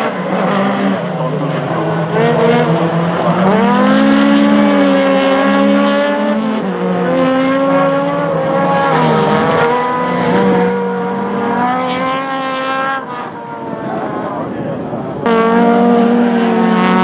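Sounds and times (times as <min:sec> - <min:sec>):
race car engines at full throttle: 0:00.0 - 0:17.0.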